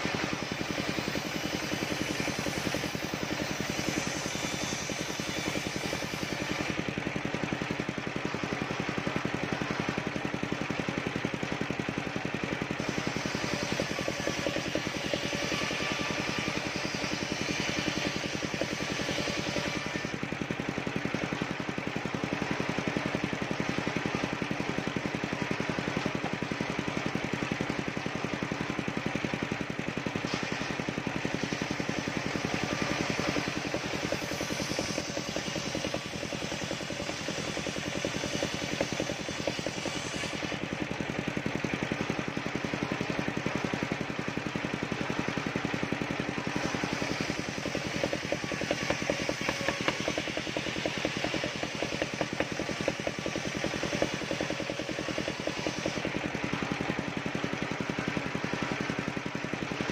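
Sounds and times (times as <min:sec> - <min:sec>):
circular saw blade cutting wood: 0:00.0 - 0:44.0, 0:44.8 - 0:59.9
engine running steadily: 0:00.0 - 0:59.9.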